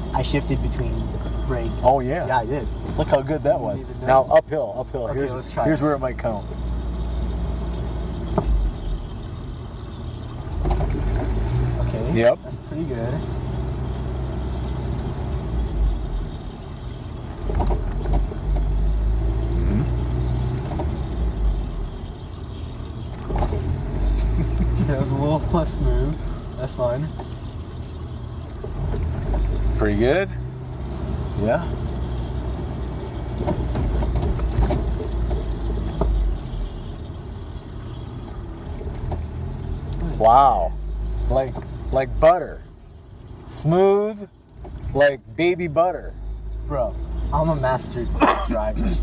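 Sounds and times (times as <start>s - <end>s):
engine and road rumble: 0.0s - 49.0s.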